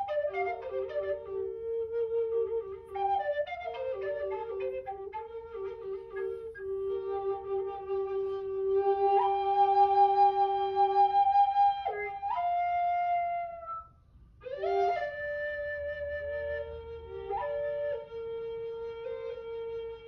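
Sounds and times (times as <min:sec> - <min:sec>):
flutes playing long held notes: 0:00.0 - 0:20.0.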